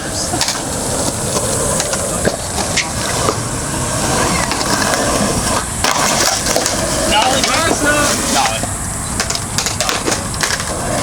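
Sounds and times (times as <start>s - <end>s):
cicadas buzzing: 0.0s - 11.0s
skateboard wheels rolling on concrete: 0.0s - 11.0s.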